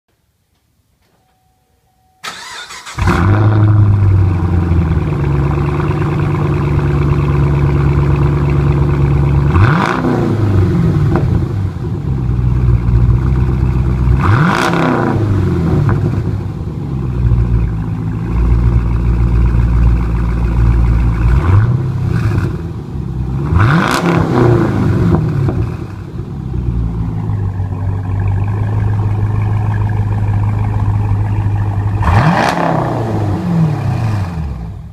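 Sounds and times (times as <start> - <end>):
car engine idling and revving: 2.3 - 34.9.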